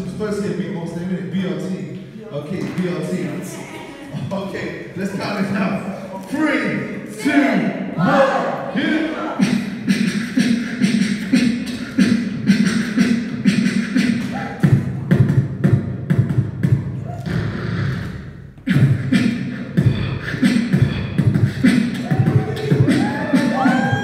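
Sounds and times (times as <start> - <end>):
beatboxing: 1.6 - 24.0.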